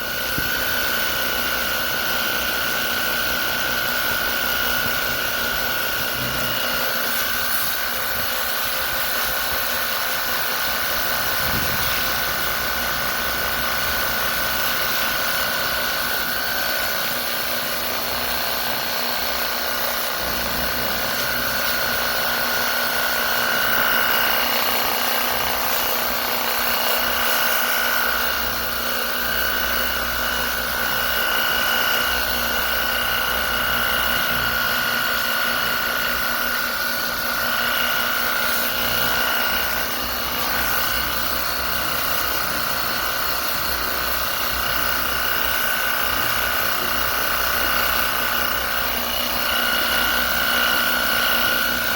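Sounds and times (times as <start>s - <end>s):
pressure washer whine: 0.0s - 51.9s.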